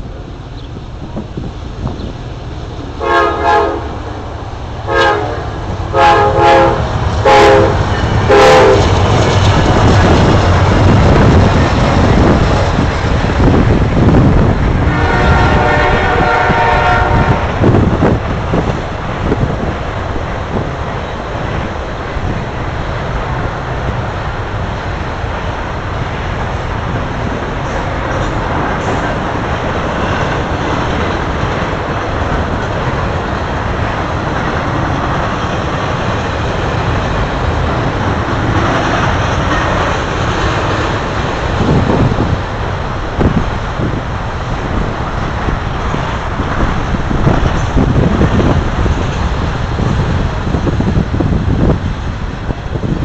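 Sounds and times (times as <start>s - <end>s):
steel wheels on rail: 0.0s - 53.0s
wind gusts on microphone: 0.0s - 53.0s.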